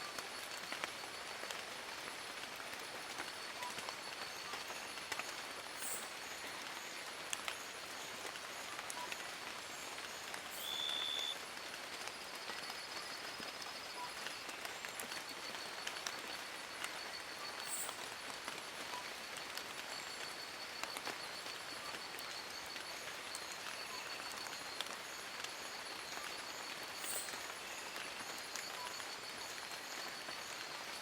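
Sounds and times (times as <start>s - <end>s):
rain pattering on leaves: 0.0s - 31.0s.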